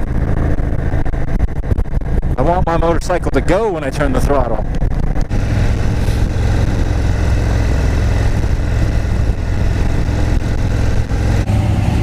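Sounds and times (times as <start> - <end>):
motorcycle engine cruising: 0.0 - 12.0
wind and road rush: 0.0 - 12.0.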